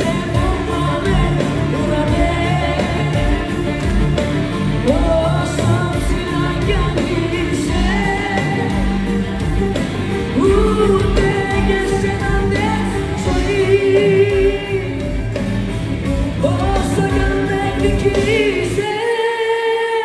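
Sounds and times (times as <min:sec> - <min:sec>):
live band playing pop music: 0:00.0 - 0:20.0
person singing: 0:00.0 - 0:20.0.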